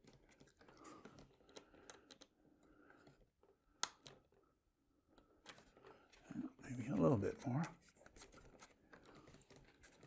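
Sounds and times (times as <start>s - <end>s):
small clicks and rubbing: 0.0s - 10.0s.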